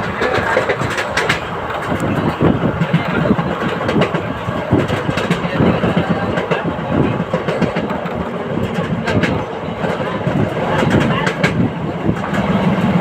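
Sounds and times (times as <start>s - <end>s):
diesel locomotive engine chugging: 0.0s - 13.0s
train wheels clattering on rails: 0.0s - 13.0s.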